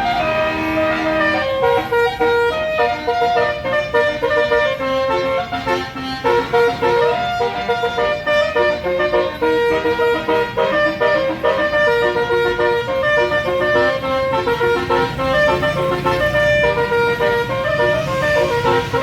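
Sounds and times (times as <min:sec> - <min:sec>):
bus musical horn tune: 0:00.0 - 0:19.0.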